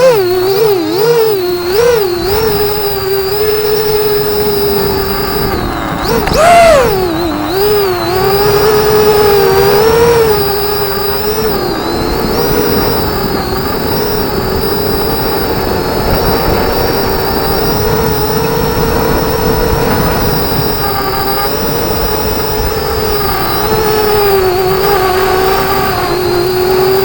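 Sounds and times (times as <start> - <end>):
drone motors and propellers whining: 0.0 - 27.0
wind rumble on microphone: 0.0 - 27.0.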